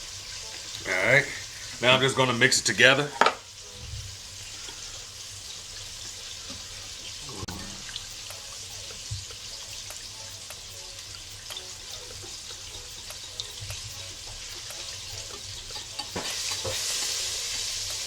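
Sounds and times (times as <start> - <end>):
chicken wings sizzling in hot oil: 0.0 - 18.0.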